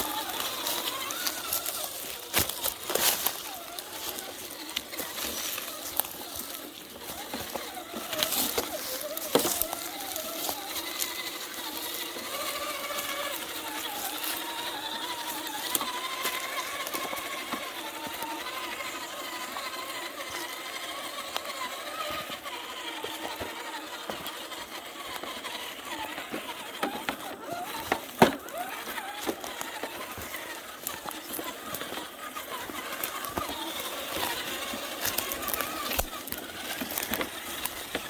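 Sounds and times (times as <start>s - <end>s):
rc car motor whining: 0.0s - 38.0s.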